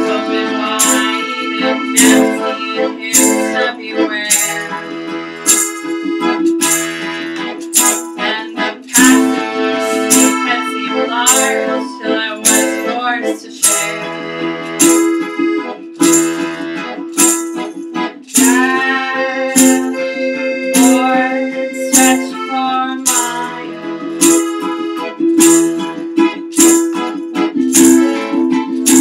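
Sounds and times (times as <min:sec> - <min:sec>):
accordion chords: 0:00.0 - 0:29.0
strummed string instrument: 0:00.0 - 0:29.0.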